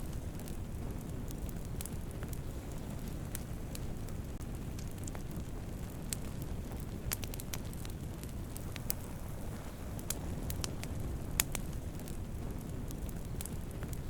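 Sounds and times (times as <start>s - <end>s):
campfire flames rushing: 0.0s - 14.0s
fire crackling and popping: 0.0s - 14.0s.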